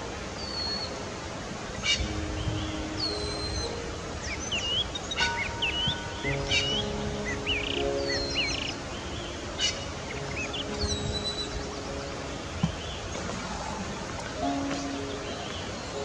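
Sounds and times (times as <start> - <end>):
outdoor hiss: 0.0 - 16.0
soft background music: 0.0 - 16.0
small birds chirping: 1.7 - 16.0.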